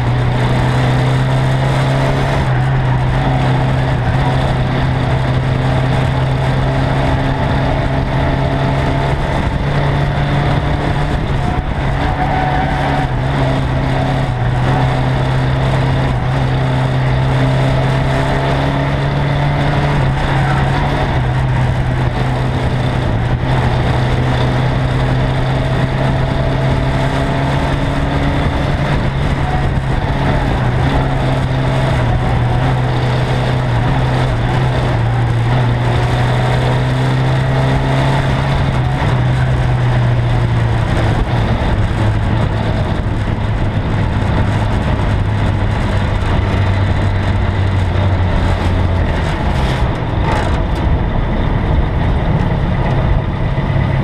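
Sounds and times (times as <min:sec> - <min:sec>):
race car engine running hard: 0:00.0 - 0:54.0.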